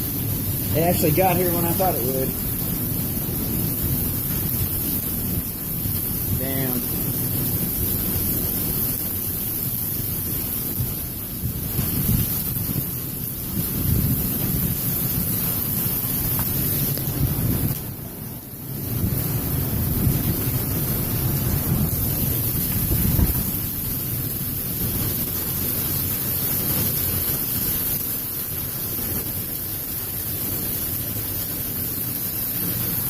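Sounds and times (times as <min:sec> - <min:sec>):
wind gusting against microphone: 0:00.0 - 0:29.6.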